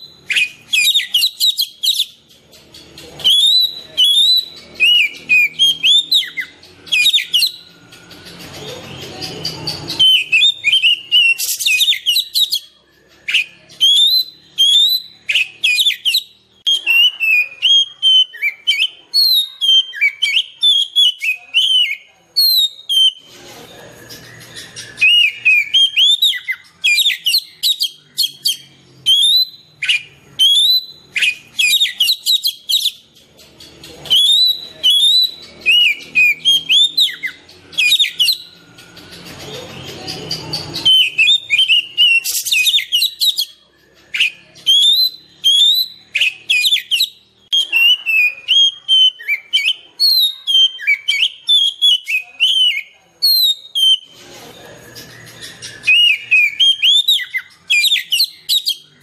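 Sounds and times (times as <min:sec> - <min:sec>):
bird singing whistled notes: 0:00.0 - 0:59.0.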